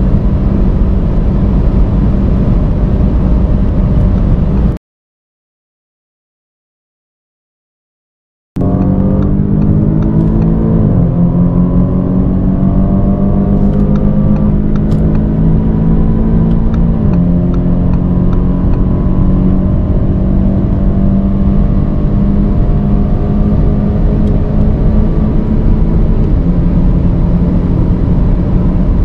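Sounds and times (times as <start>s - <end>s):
car engine accelerating: 0.0s - 4.8s, 8.6s - 29.0s.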